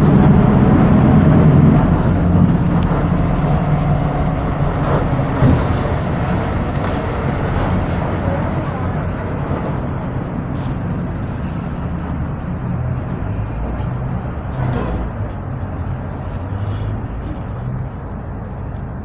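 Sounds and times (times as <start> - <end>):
bus engine droning: 0.0 - 19.0.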